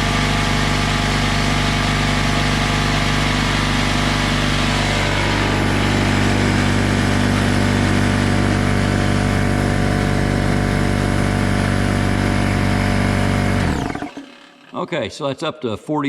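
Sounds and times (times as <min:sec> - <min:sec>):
air compressor running: 0:00.0 - 0:14.8.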